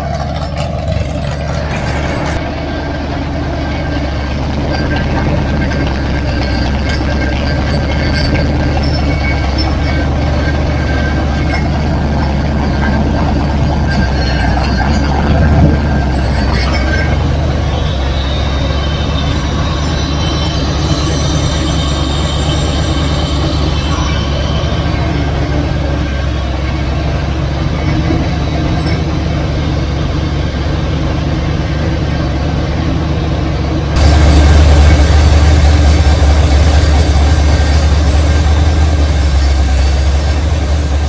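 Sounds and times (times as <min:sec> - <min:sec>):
engine droning on a dyno: 0:00.0 - 0:41.0.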